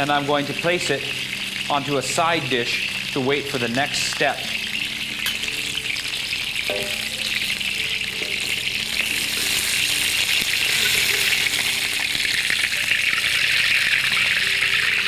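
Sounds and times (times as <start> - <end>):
oil sizzling and spitting: 0.0 - 15.0.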